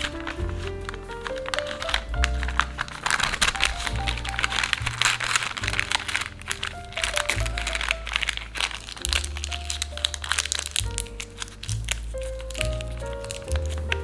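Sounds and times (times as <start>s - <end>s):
background music with bass line: 0.0s - 14.0s
baking paper crinkling: 0.0s - 14.0s.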